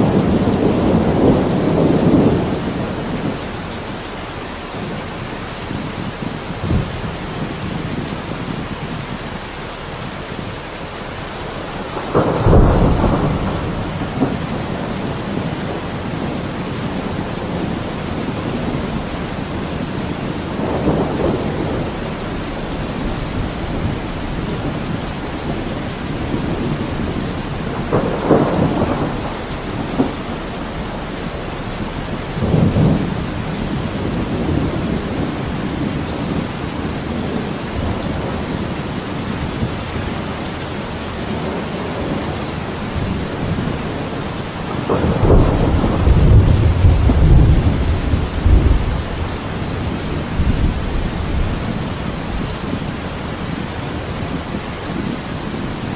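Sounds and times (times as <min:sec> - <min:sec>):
heavy rain: 0:00.0 - 0:55.9
thunder rumbling: 0:00.0 - 0:55.9.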